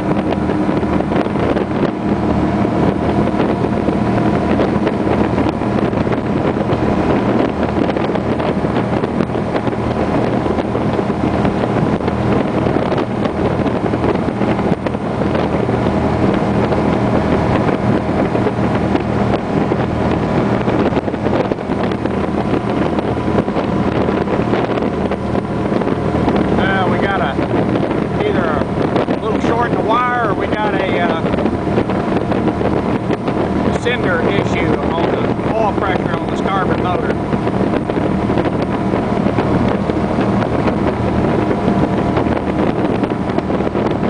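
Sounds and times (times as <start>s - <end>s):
powerboat engines running: 0.0s - 44.0s
wind buffeting microphone: 0.0s - 44.0s.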